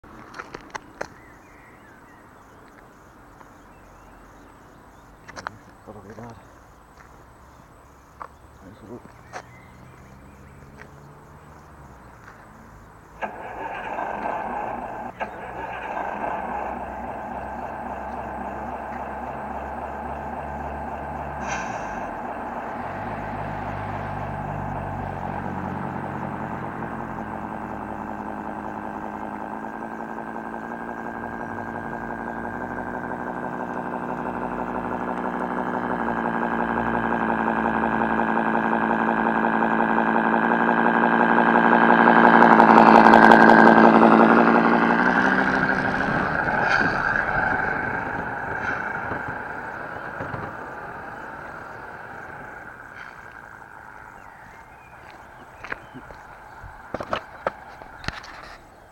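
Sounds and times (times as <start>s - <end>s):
simulated truck engine drone: 0.0s - 58.9s.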